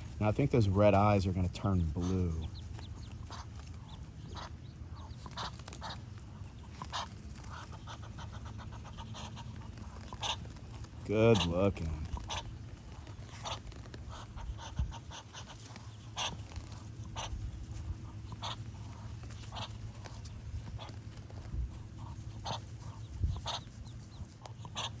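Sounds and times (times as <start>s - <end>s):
ducklings peeping: 0.0s - 25.0s
steady low rumble: 0.0s - 25.0s.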